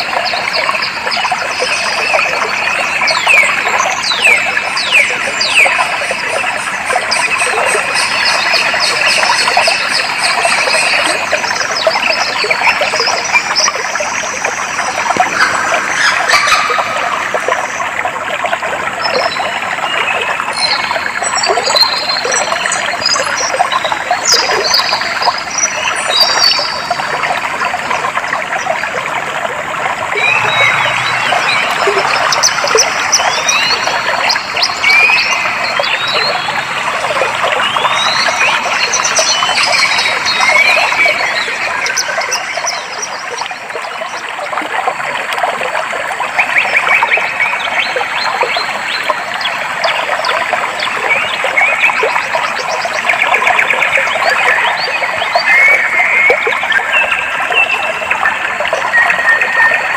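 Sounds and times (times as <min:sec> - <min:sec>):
stream water babbling: 0:00.0 - 0:59.9.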